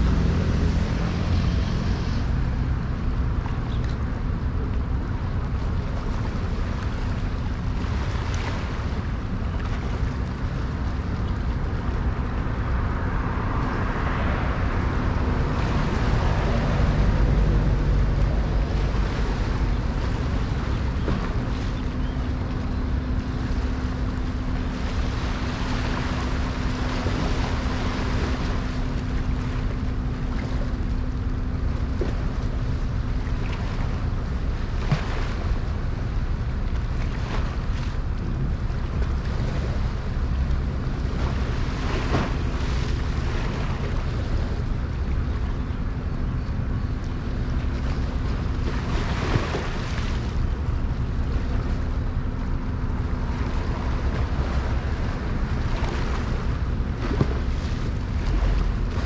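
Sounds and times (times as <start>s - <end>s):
ship engines rumbling: 0.0s - 59.0s
steady hum: 0.0s - 59.0s.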